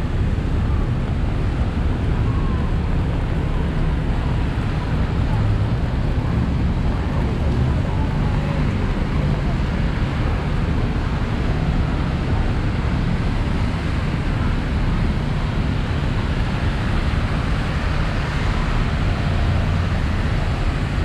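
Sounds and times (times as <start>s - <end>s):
traffic engines rumbling: 0.0s - 21.0s.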